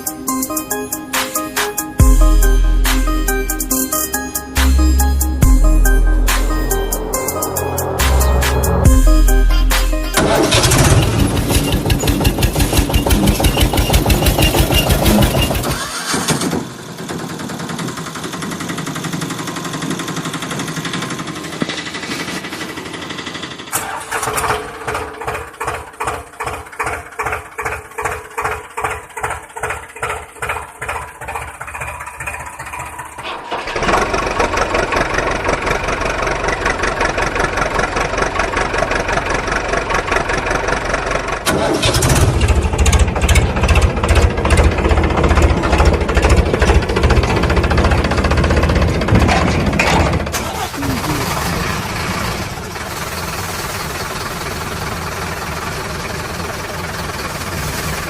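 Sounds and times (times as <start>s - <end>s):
heavy diesel engines chugging: 0.0s - 58.0s.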